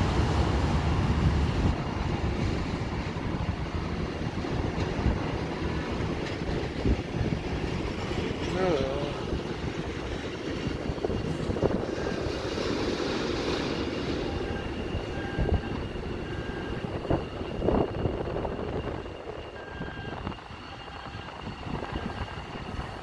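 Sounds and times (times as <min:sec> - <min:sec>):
distant aircraft engines rumbling: 0:00.0 - 0:23.0.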